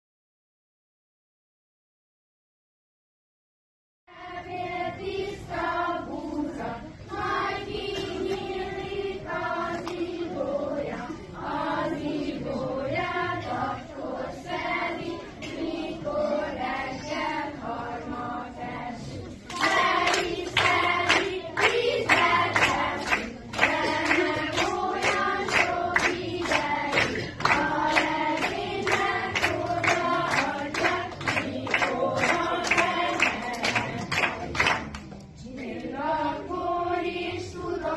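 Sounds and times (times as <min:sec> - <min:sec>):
group singing: 0:04.1 - 0:34.8, 0:35.4 - 0:37.9.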